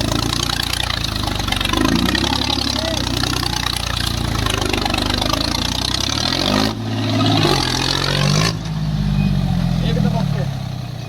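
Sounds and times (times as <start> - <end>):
heavy diesel engine under load: 0.0 - 11.0.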